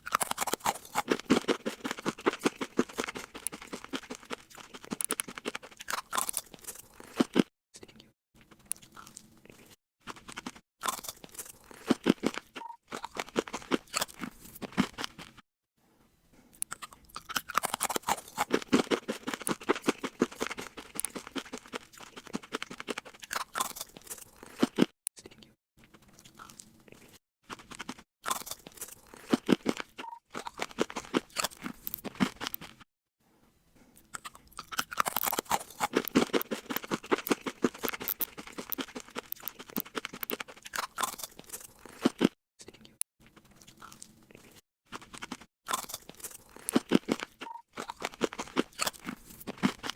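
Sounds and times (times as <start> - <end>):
crunching and chewing crisp food: 0.0 - 15.4, 16.3 - 32.9, 33.8 - 49.9.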